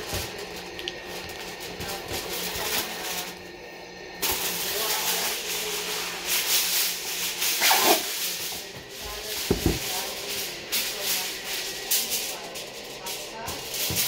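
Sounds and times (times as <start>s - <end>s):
aluminium foil crinkling: 0.0s - 3.5s, 4.2s - 14.0s.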